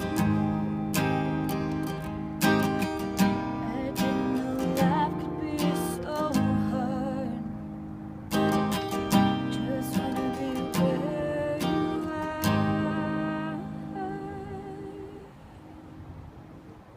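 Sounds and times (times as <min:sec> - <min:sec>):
acoustic guitar strumming chords: 0:00.0 - 0:15.9.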